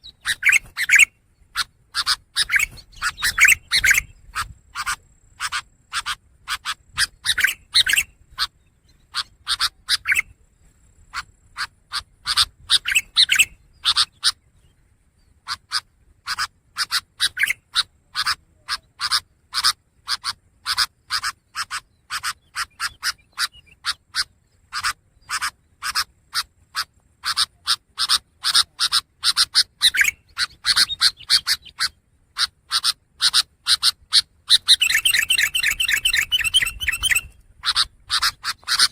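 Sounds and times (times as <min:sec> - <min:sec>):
bird singing harsh chattering notes: 0:00.0 - 0:10.4, 0:11.0 - 0:38.9.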